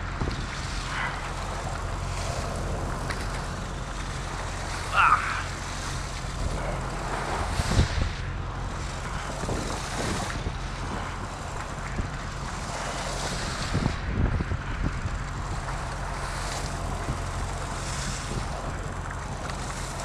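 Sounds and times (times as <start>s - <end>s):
boat engine humming: 0.0s - 20.0s
wind buffeting microphone: 0.0s - 20.0s.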